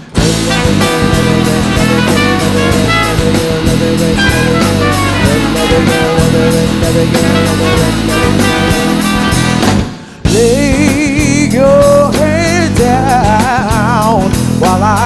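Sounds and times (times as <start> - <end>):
jazz-like band music with horns: 0.0 - 15.0
steady drum beat: 0.0 - 15.0.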